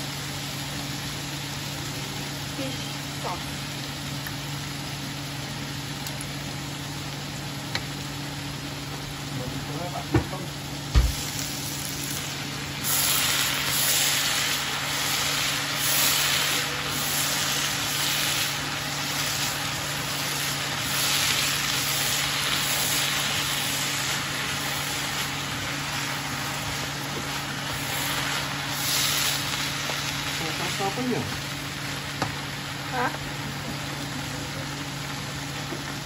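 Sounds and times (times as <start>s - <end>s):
vegetables sizzling in a pan: 0.0s - 36.0s.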